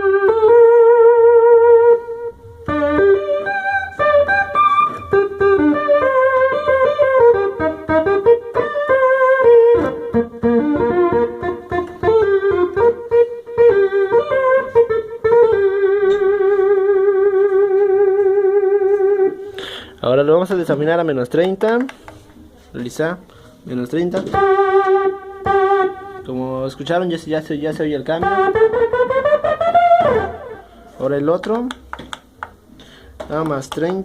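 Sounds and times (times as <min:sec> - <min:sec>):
synth lead keyboard melody: 0:00.0 - 0:21.3, 0:23.7 - 0:34.0.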